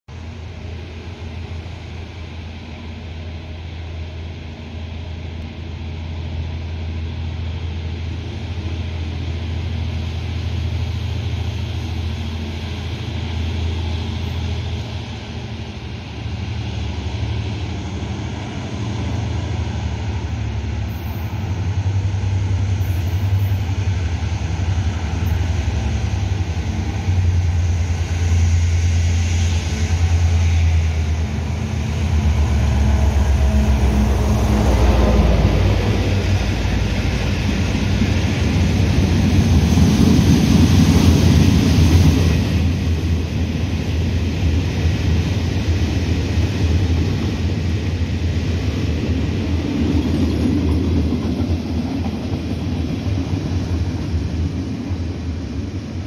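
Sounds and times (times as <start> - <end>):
diesel locomotive engine rumble: 0.1 - 56.0.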